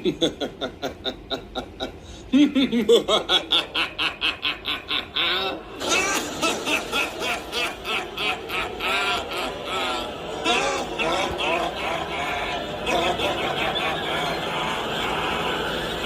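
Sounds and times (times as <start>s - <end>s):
people laughing: 0.0s - 16.0s.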